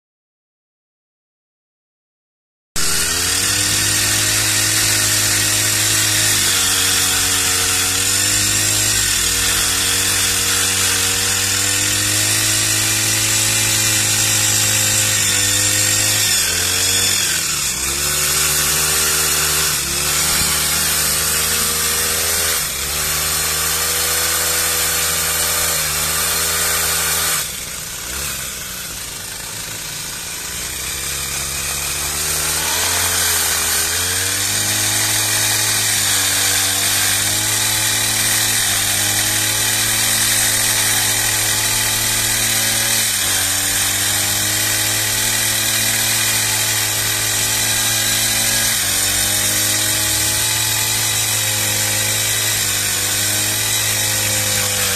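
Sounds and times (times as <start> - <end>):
pole pruner engine running: 2.8 - 54.9.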